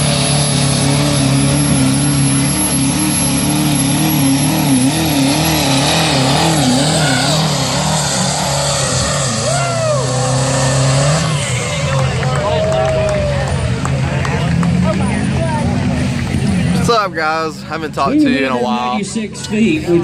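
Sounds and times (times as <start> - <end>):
pickup engine labouring under load: 0.0 - 18.0.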